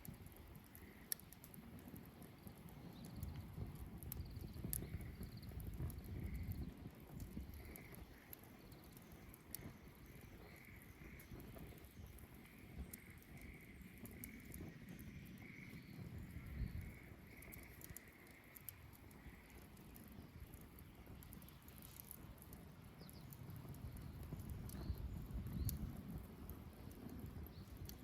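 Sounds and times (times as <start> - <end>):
low fire rumble: 0.0 - 28.0
wood fire crackling and popping: 0.0 - 28.0
faint high chirping pulses: 2.1 - 28.0.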